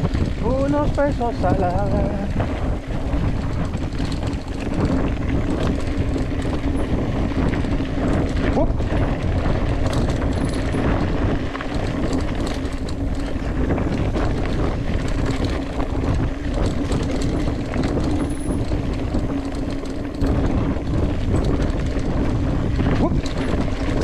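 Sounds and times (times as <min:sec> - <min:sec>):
mountain bike tyres rattling: 0:00.0 - 0:24.0.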